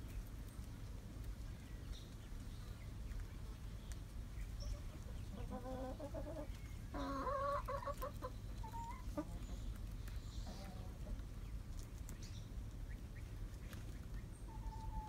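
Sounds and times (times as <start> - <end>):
chickens clucking: 0.1 - 15.0.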